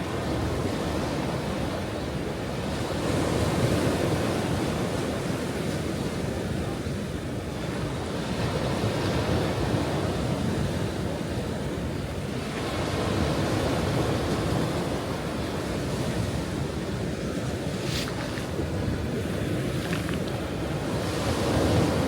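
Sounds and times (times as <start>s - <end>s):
ocean waves breaking on shore: 0.0s - 22.0s
wind on microphone: 0.0s - 22.0s.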